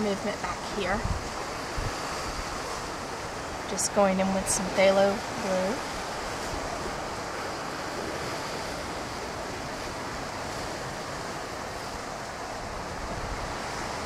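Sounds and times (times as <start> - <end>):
ocean surf rushing: 0.0 - 14.0
wind: 0.0 - 14.0.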